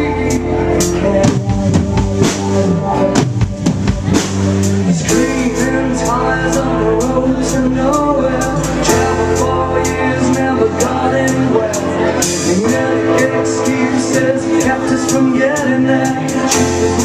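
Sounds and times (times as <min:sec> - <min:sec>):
man singing: 0:00.0 - 0:03.2, 0:04.8 - 0:17.0
rock band playing: 0:00.0 - 0:17.0.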